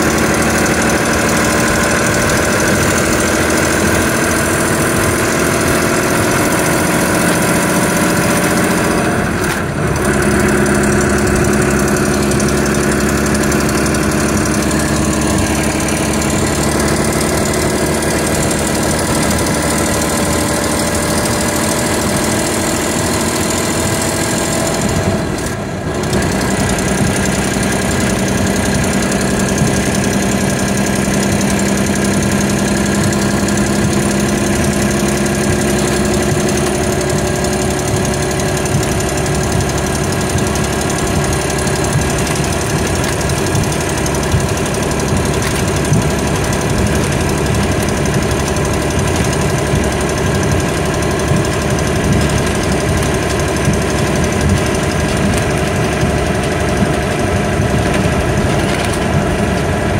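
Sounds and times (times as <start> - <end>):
coach diesel engine running: 0.0 - 59.9.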